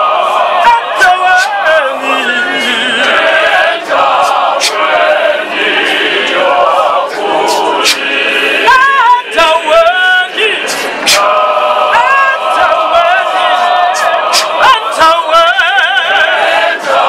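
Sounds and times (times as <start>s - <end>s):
choir singing: 0.0s - 17.0s
man singing lead: 0.0s - 17.0s.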